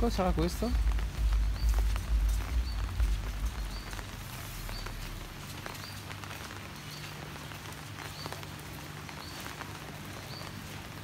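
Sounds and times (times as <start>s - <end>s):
footsteps on a paved path: 0.0s - 11.0s
steady background hiss: 0.0s - 11.0s.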